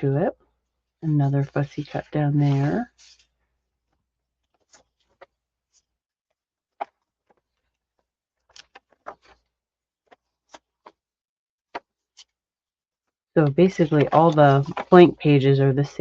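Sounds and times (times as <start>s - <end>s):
paper pages rustling: 1.4s - 11.1s, 11.7s - 12.4s, 13.4s - 16.0s.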